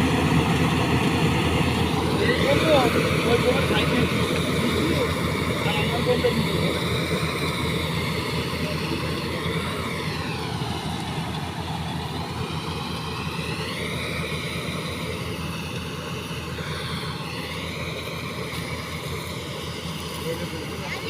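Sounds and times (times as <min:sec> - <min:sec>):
harvester engine running: 0:00.0 - 0:21.0.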